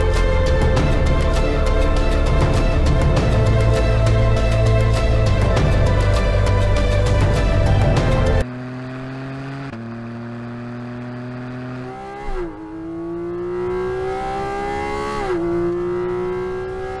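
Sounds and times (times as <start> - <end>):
car engine accelerating and upshifting: 0.0 - 17.0.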